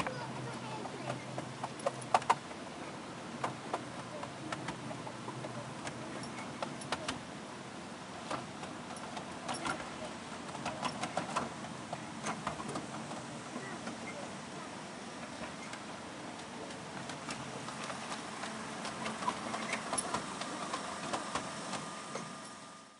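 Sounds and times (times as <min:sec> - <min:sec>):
train wheels clicking over rail joints: 0:00.0 - 0:02.6, 0:03.3 - 0:07.3, 0:08.2 - 0:14.2, 0:15.2 - 0:22.5
train ride rumble: 0:00.0 - 0:22.8.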